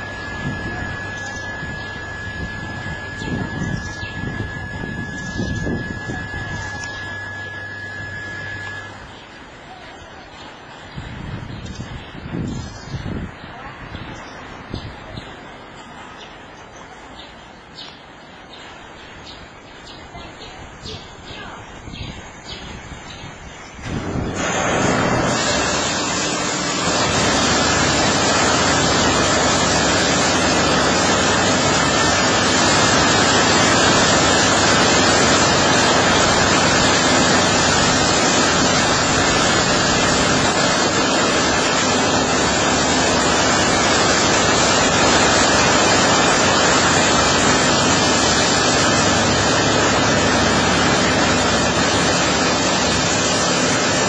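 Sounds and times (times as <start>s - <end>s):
water jets spraying: 0.0s - 54.0s.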